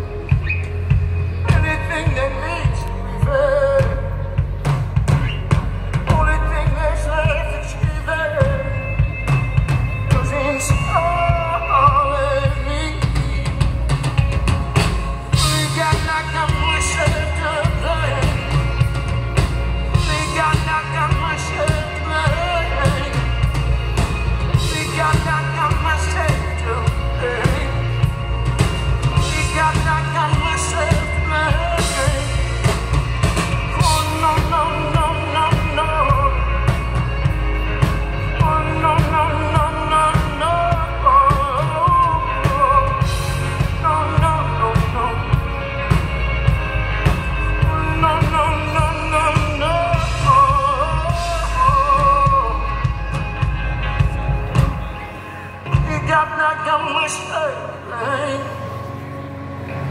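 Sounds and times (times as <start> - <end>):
drum kit: 0.0 - 56.5
live rock band playing: 0.0 - 59.9
person singing: 0.0 - 59.9.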